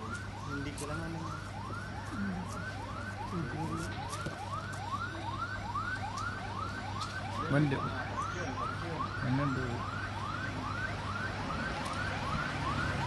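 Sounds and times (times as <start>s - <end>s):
siren yelp: 0.0s - 13.0s.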